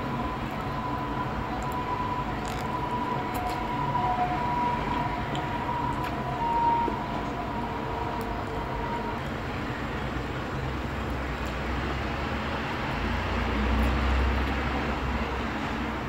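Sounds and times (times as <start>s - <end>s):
heavy vehicle rumble: 0.0s - 16.0s
traffic noise: 0.0s - 16.0s.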